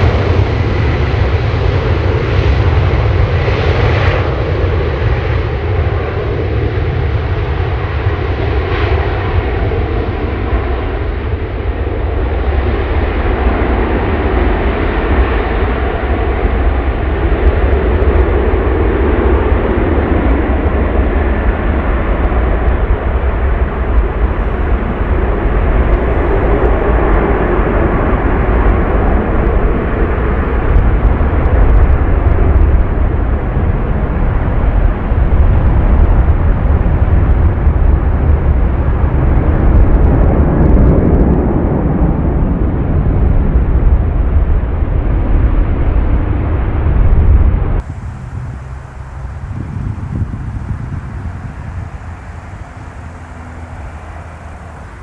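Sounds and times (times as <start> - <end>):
loud jet engine noise: 0.0 - 43.5, 45.7 - 55.0.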